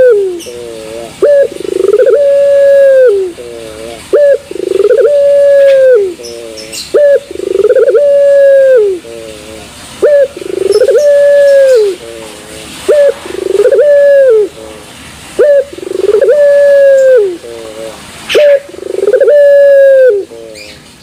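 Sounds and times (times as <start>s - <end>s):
dove cooing: 0.0s - 20.8s.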